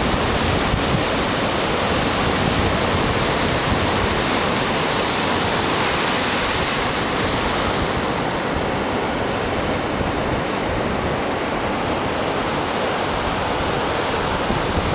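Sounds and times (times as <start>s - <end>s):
surf washing up a beach: 0.0s - 14.9s.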